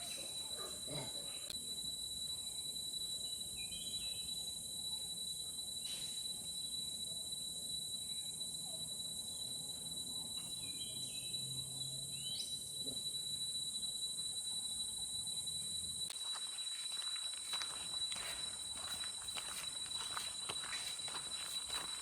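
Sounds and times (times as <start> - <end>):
high-pitched insect tone: 0.0 - 22.0
hiss-like insect chorus: 0.0 - 22.0.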